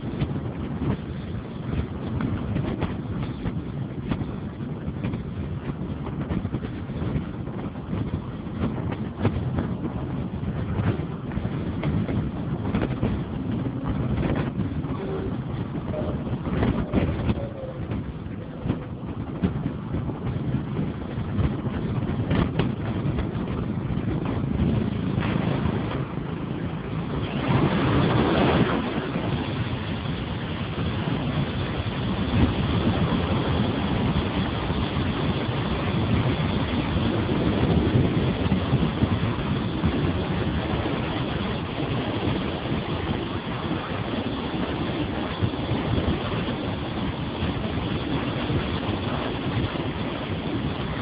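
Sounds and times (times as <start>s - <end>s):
vehicle engine and road noise: 0.0s - 51.0s
wind buffeting microphone: 0.0s - 51.0s.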